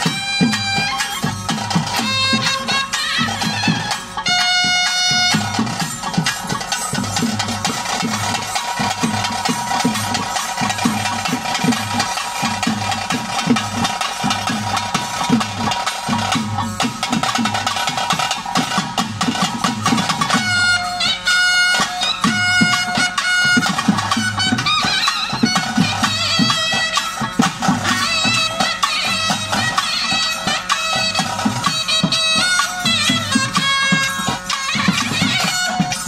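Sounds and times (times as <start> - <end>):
reedy pipe melody: 0.0 - 18.8, 19.8 - 36.0
rapid dense drumming: 0.0 - 36.0.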